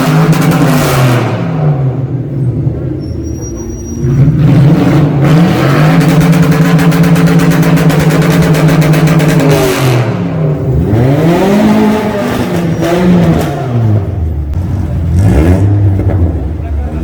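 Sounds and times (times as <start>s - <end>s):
car engine revving: 0.0s - 3.0s, 4.0s - 17.0s.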